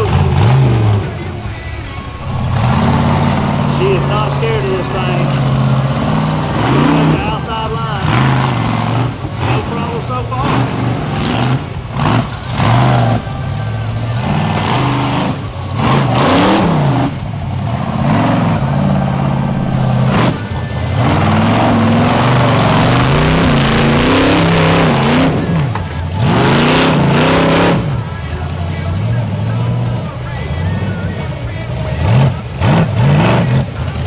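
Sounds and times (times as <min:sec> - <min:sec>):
engine revving in throttle bursts: 0:02.2 - 0:28.2, 0:31.6 - 0:34.0.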